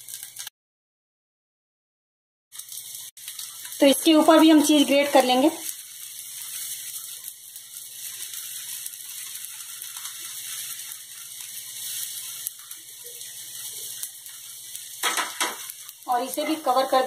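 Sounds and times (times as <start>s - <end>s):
cutlet sizzling in a frying pan: 0.0s - 0.5s, 2.5s - 17.0s.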